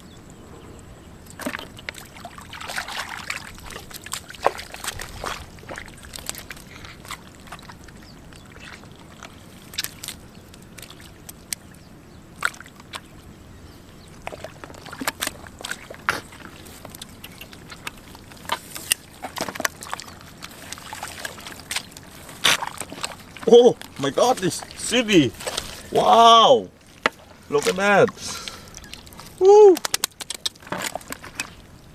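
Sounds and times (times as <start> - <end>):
water splats and sloshes: 1.3 - 13.3, 14.1 - 31.9
hands squelching in wet mud: 1.4 - 13.2, 14.1 - 26.2, 26.8 - 31.9.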